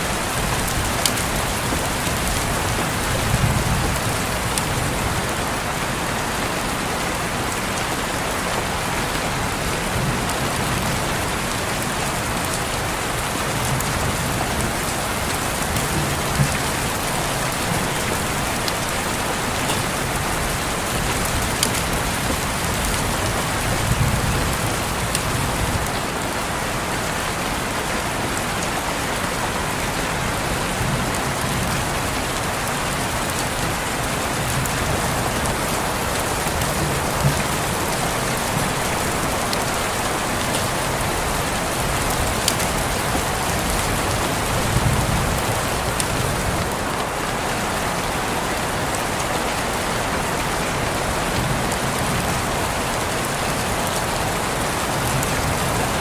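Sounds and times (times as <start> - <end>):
raindrops tapping: 0.0 - 26.2, 27.7 - 56.0
rain on a window: 0.0 - 56.0.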